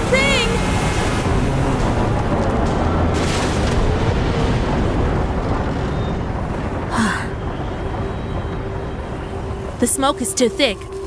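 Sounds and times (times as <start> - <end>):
tornado wind rumbling: 0.0 - 11.0.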